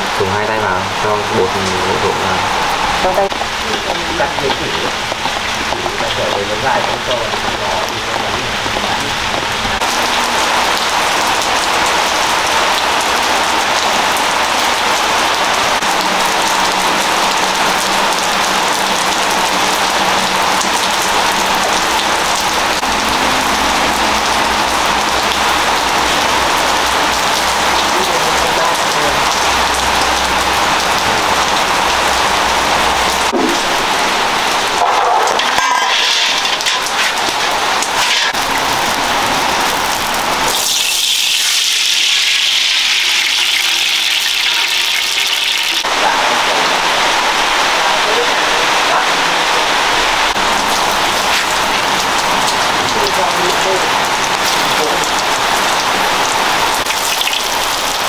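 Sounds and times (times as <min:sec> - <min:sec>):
food frying in hot oil: 0:02.4 - 0:46.2, 0:50.3 - 0:58.0.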